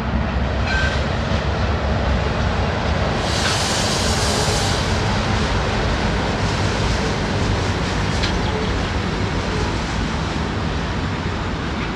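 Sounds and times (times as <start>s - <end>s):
train rumbling across steel bridge: 0.0s - 11.9s.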